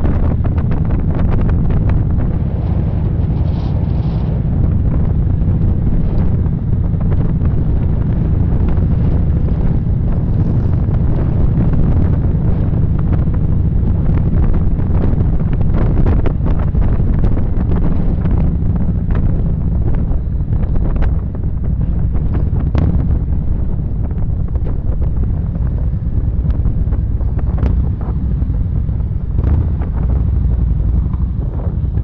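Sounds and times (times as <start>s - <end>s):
motorcycle engine drone: 0.0s - 32.0s
wind on microphone: 0.0s - 32.0s.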